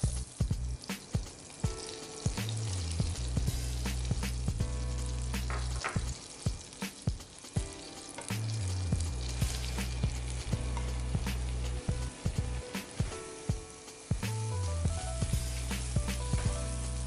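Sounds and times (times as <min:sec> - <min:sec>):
garlic sizzling in butter: 0:00.0 - 0:17.0.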